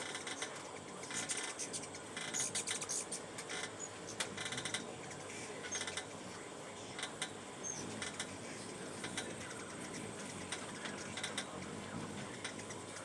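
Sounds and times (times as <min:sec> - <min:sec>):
faint irregular clicks and ticks: 0:00.0 - 0:13.0
steady low hiss: 0:00.0 - 0:13.0.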